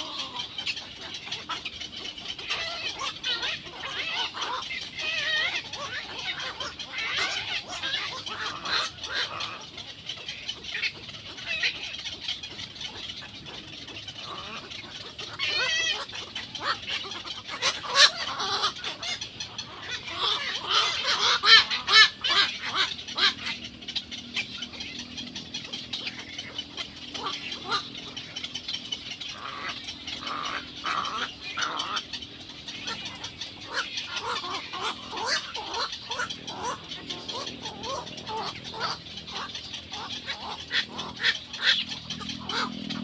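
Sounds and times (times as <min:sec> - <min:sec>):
egret chicks squawking: 0:00.0 - 0:43.0.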